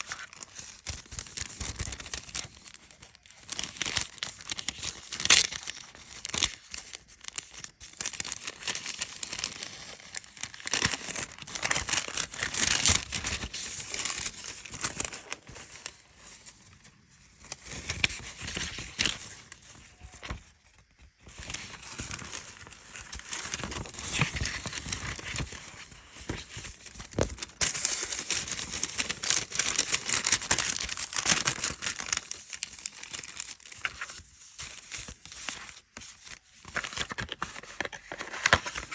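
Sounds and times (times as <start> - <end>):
paper crinkling and tearing: 0.0 - 16.7, 17.4 - 38.9.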